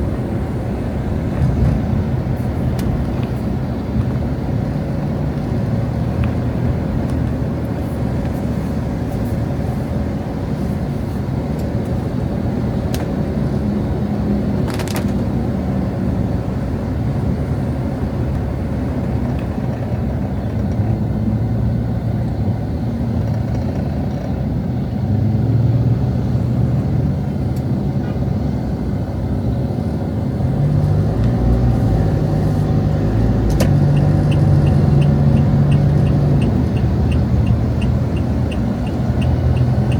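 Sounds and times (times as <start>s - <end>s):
vehicles passing on street: 0.0s - 39.9s.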